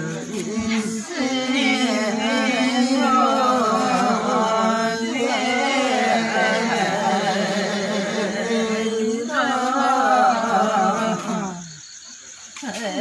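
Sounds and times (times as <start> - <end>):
group of voices singing: 0.0 - 11.8.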